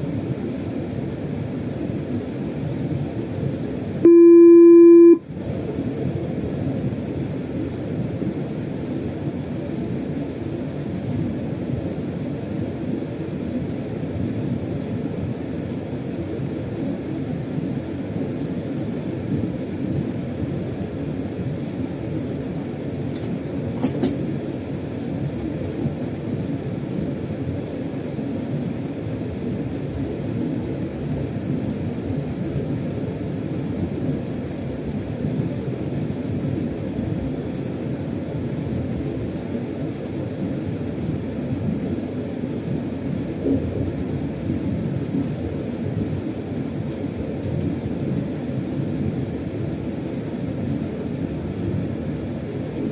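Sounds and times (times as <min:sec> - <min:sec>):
train running on track: 0:00.0 - 0:52.6.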